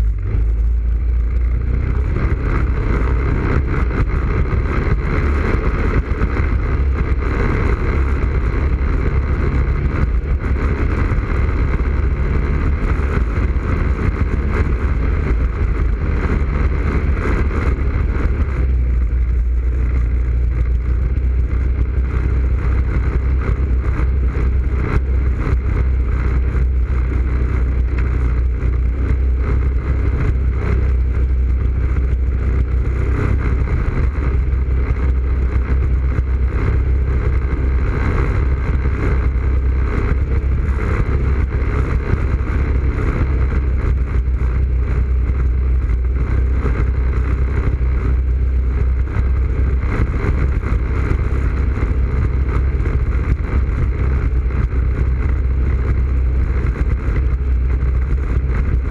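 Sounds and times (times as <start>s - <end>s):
atv engine running steadily: 0.0s - 58.9s.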